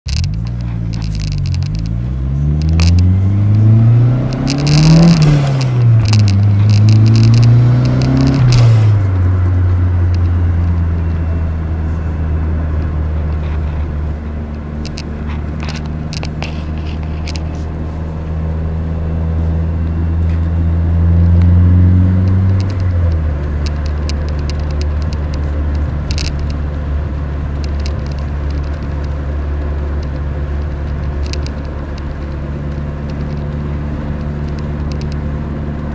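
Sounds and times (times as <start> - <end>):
clicks and rattles: 0.1 - 11.4, 12.8 - 17.7, 22.2 - 35.9
car engine revving through gears: 0.1 - 35.9.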